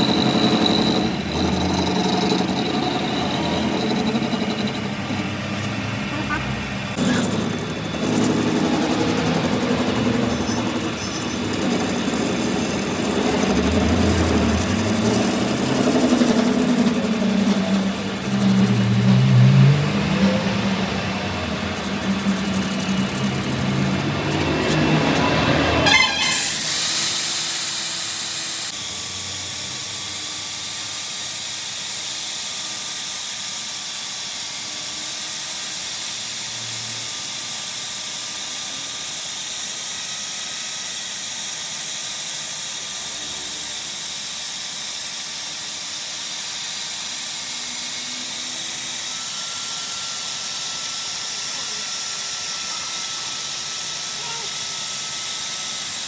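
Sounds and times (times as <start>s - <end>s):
machine hiss: 0.0s - 6.1s, 6.8s - 56.0s.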